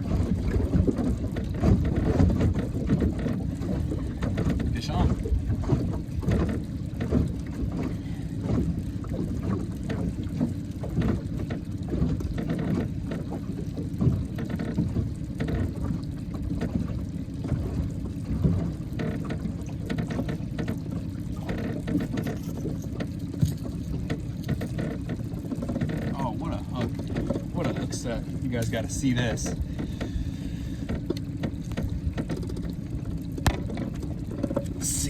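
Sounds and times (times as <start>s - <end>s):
water lapping against boat: 0.0s - 35.0s.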